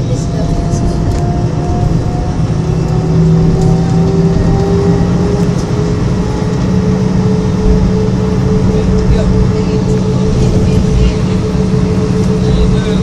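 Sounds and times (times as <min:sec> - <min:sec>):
jet engine rumble: 0:00.0 - 0:13.0
rising engine whine: 0:00.0 - 0:13.0.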